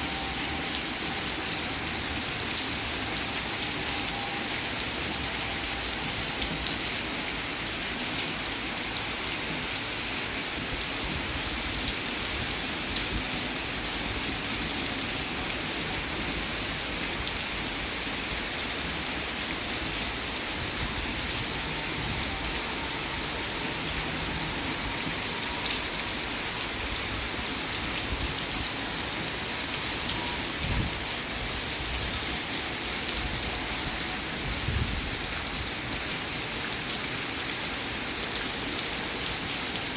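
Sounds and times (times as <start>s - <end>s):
rain falling on surfaces: 0.0s - 39.9s.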